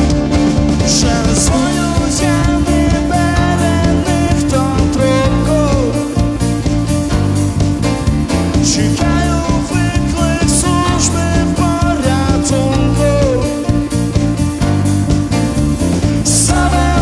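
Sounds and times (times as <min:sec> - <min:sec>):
live rock band playing: 0:00.0 - 0:17.0
melodic guitar lead line: 0:00.0 - 0:17.0.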